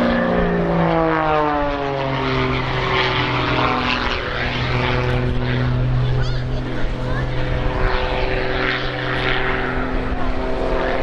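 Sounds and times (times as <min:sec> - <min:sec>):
biplane engine and propeller: 0:00.0 - 0:11.0.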